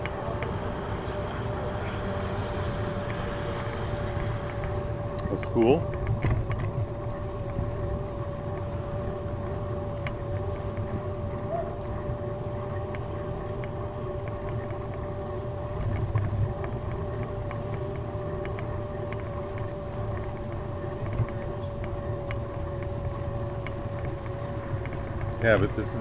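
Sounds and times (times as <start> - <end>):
bicycle tyres rumbling on pavement: 0.0 - 26.0
thin whine: 0.0 - 26.0
faint ticks: 2.6 - 26.0.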